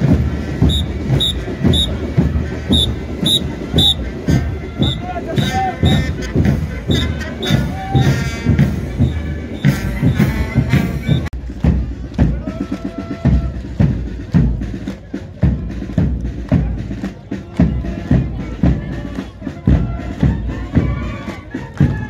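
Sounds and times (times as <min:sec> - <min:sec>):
marching drum beat: 0:00.0 - 0:22.0
military band music: 0:00.0 - 0:22.0.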